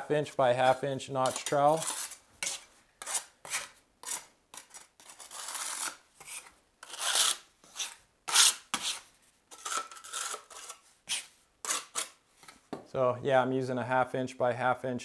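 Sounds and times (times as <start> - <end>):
trowel scraping mortar on floor: 0.2 - 12.6.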